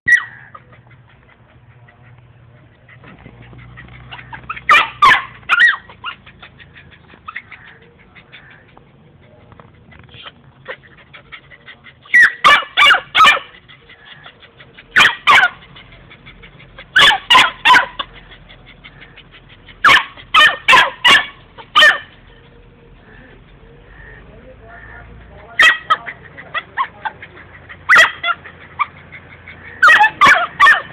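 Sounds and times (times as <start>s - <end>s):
puppy barking: 0.1s - 9.4s, 10.0s - 24.2s, 24.8s - 30.9s.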